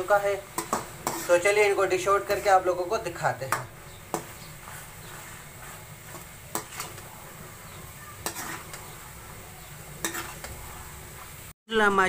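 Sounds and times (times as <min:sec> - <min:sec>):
spoon scraping a pan: 0:00.0 - 0:11.5
low steady sizzle: 0:00.0 - 0:12.0.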